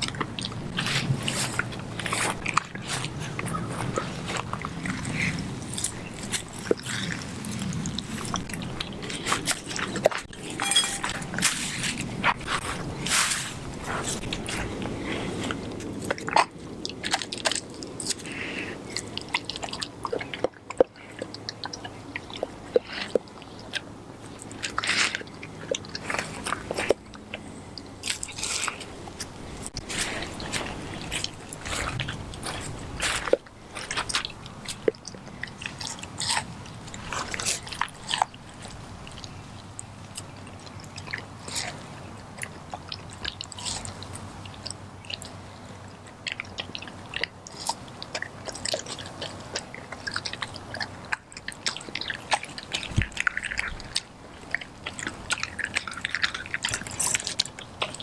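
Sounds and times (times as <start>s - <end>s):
dog chewing raw meat: 0.0s - 13.0s, 13.6s - 58.0s.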